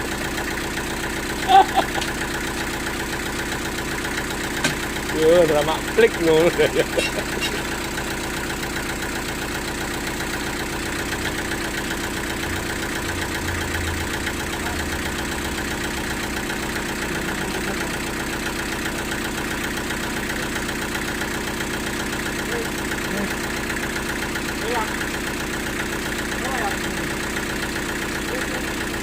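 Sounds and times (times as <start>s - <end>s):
sawmill machinery drone: 0.0s - 29.0s.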